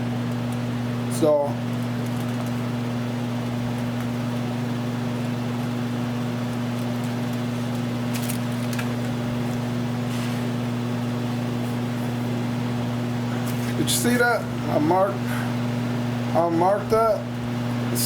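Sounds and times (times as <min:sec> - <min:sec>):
low mechanical hum with hiss: 0:00.0 - 0:18.0.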